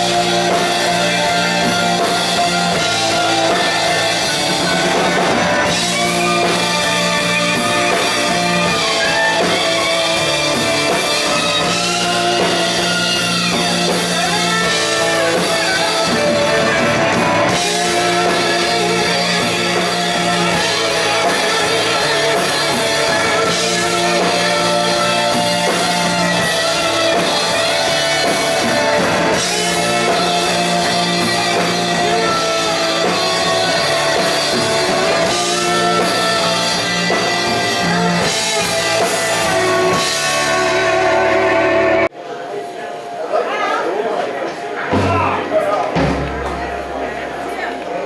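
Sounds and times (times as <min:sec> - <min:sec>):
person singing: 0:00.0 - 0:42.1
bass guitar: 0:00.0 - 0:42.2, 0:44.9 - 0:48.0
drum kit: 0:00.0 - 0:42.2, 0:44.5 - 0:48.0
electric guitars: 0:00.0 - 0:42.2.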